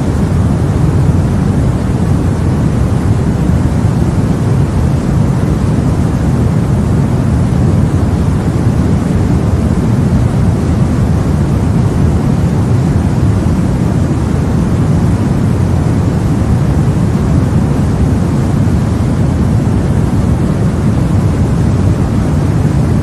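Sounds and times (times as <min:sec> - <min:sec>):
deep white noise: 0:00.0 - 0:23.0.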